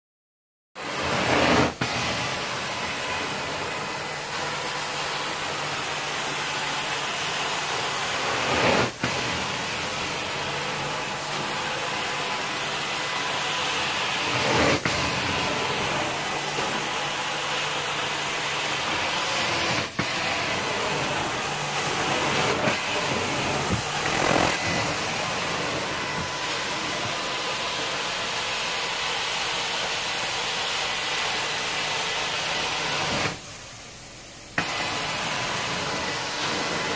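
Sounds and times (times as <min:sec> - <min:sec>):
carpet cleaning wand suction hiss: 0:00.8 - 0:36.9.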